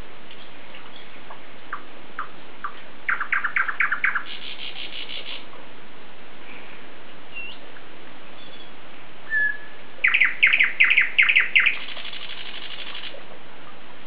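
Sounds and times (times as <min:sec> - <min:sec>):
songbird singing: 0:00.0 - 0:05.7, 0:06.4 - 0:13.9.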